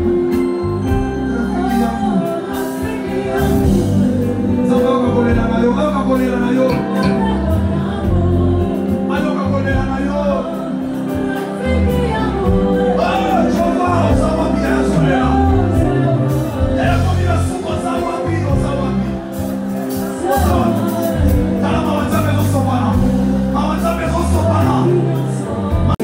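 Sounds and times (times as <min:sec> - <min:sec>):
choir singing with band: 0:00.0 - 0:26.0
strong bass: 0:00.0 - 0:26.0.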